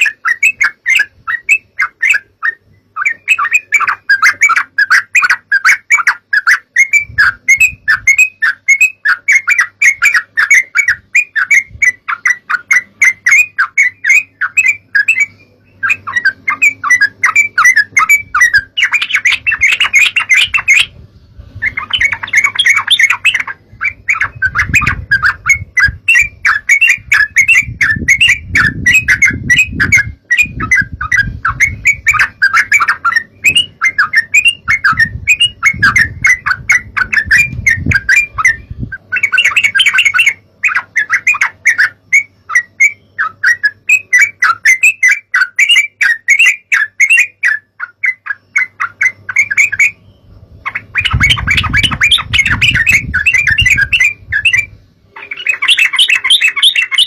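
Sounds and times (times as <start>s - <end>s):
bulbul chattering calls: 0.0s - 21.0s, 21.6s - 50.0s, 50.7s - 57.0s
faint low hum: 0.0s - 57.0s.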